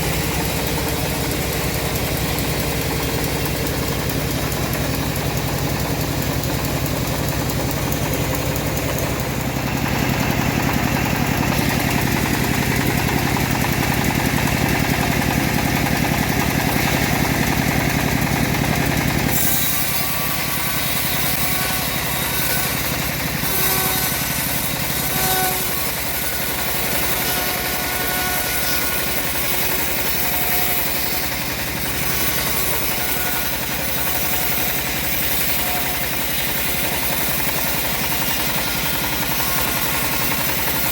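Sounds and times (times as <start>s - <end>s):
bandsaw mill sawing a log: 0.0s - 40.9s
deep engine sound: 0.0s - 40.9s.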